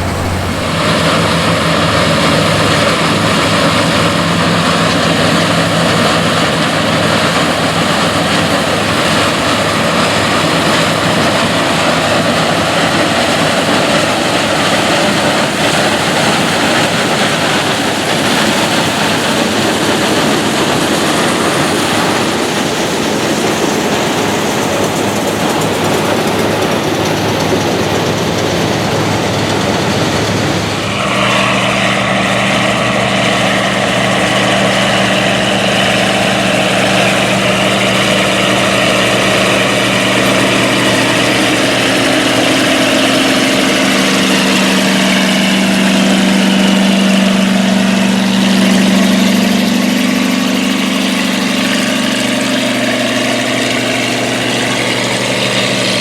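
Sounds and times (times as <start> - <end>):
combine harvester engine humming: 0.0 - 56.0
working machinery noise: 0.0 - 56.0.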